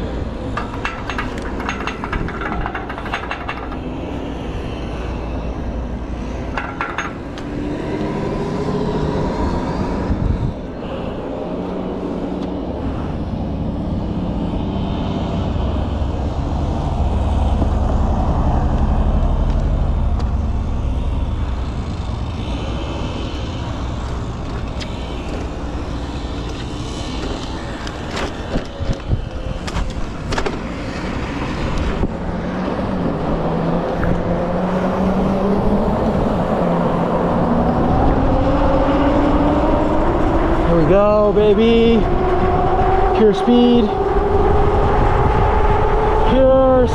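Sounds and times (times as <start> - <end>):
wind noise: 0.0 - 46.9.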